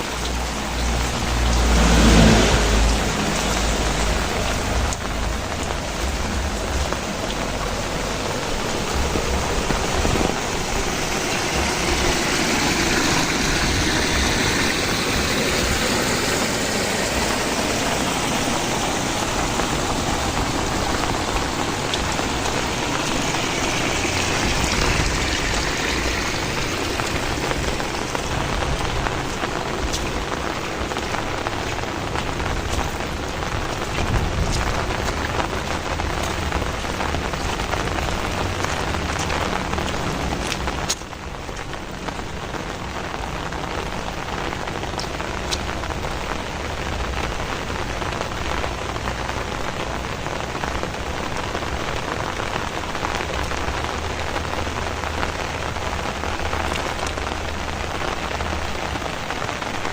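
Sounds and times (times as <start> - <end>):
heavy rain: 0.0 - 59.9
raindrop hits: 0.0 - 59.9.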